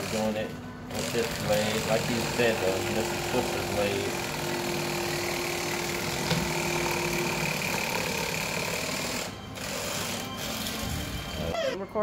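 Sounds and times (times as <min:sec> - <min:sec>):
electric knife sawing fish: 0:00.0 - 0:11.7.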